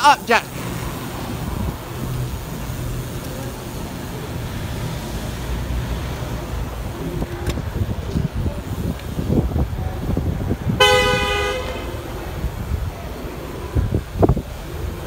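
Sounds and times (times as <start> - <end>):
car traffic: 0.0 - 15.0
road noise: 0.0 - 15.0
air rushing past microphone: 0.5 - 15.0.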